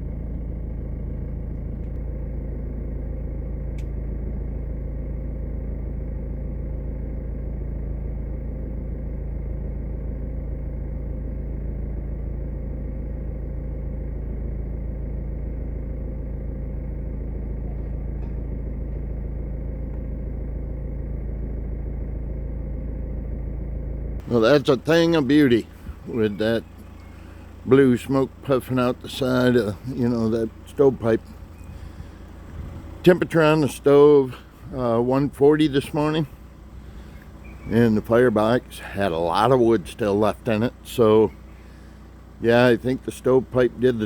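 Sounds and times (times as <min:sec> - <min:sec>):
motor humming: 0:00.0 - 0:44.0.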